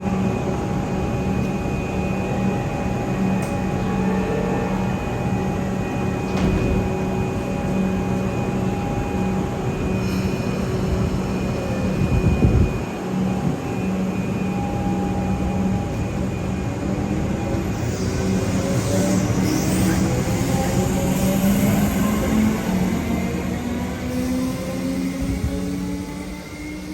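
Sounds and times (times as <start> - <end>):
electric train humming: 0.0 - 26.9.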